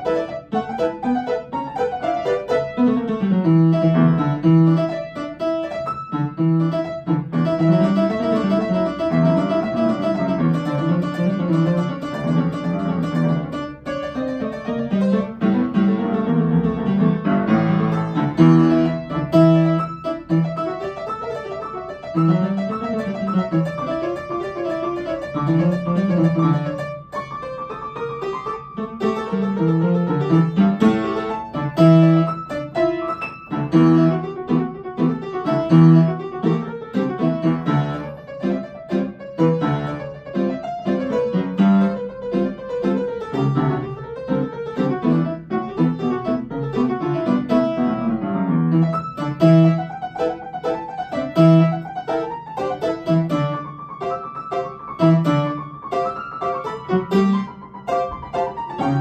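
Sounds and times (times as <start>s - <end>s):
fast piano playing: 0.0s - 59.0s.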